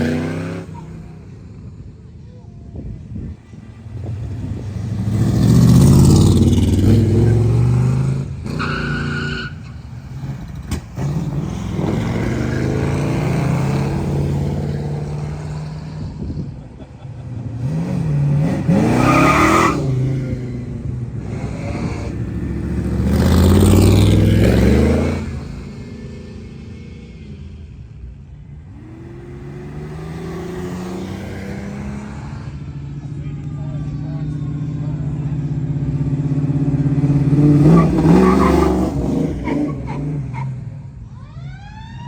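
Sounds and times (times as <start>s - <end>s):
car engine revving: 0.0s - 1.9s, 2.8s - 41.0s.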